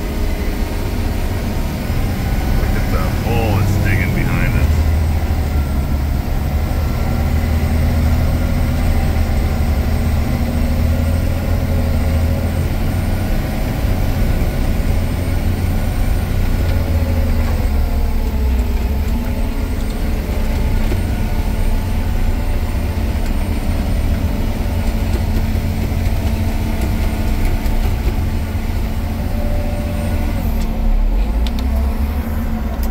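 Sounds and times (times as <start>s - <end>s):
diesel engine rumbling: 0.0s - 32.9s.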